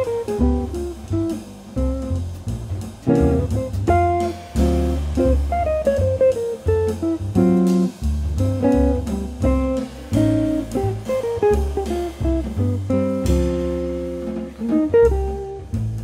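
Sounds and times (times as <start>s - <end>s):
guitar playing plucked notes: 0.0s - 16.0s
steady bass line: 0.0s - 16.0s.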